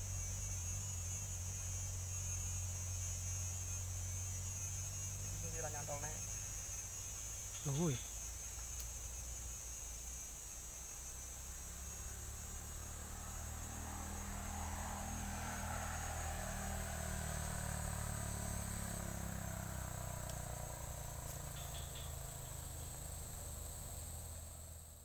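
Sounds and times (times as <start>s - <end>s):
insects buzzing and chirring: 0.0s - 25.0s.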